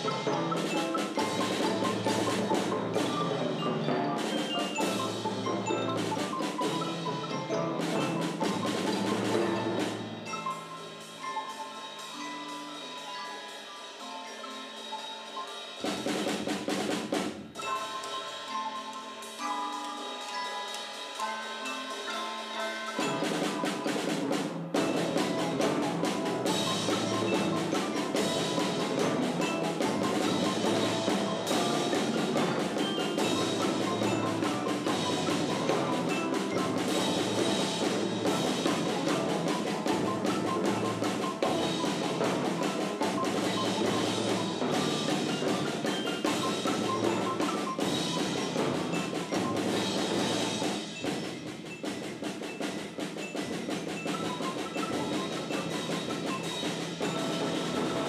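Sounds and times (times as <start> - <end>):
drum kit: 0.0 - 13.2, 13.8 - 58.0
mallet percussion tune: 0.0 - 58.0.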